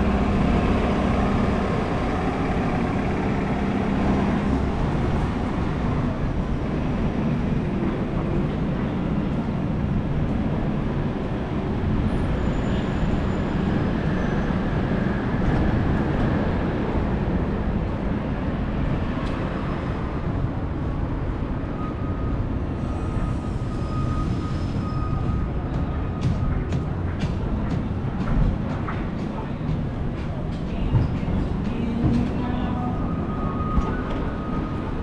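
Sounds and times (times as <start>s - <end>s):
bicycle road noise: 0.0s - 35.0s.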